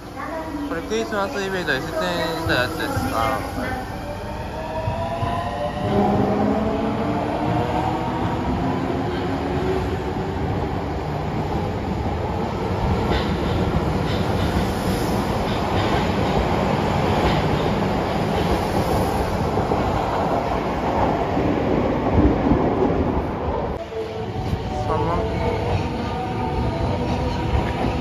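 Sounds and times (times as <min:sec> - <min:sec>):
rumble of train wheels on rail: 0:00.0 - 0:28.0.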